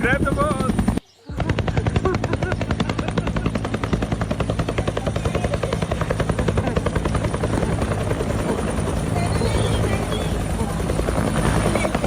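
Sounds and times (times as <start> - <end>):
helicopter engine hum: 0.0 - 12.0
helicopter rotor chop: 0.0 - 12.0.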